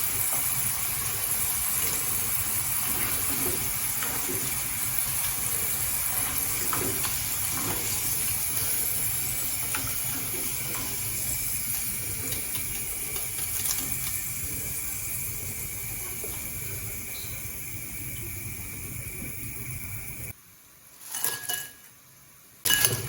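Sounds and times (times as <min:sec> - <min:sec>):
potatoes frying in hot oil: 0:00.0 - 0:20.4, 0:22.7 - 0:23.0.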